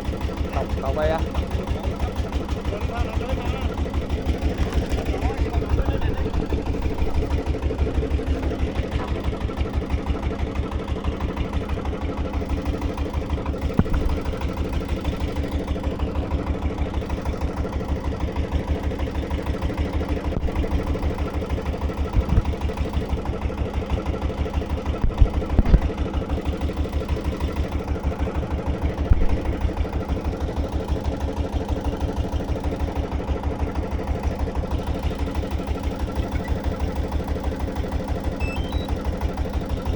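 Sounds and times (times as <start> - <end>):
engine knocks: 0.0 - 39.9
small engine running: 0.0 - 39.9.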